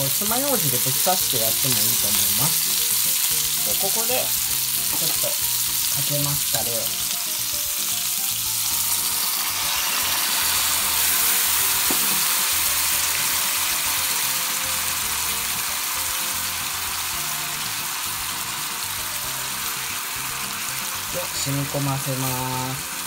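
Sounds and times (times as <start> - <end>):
sauce sizzling in frying pan: 0.0 - 23.0.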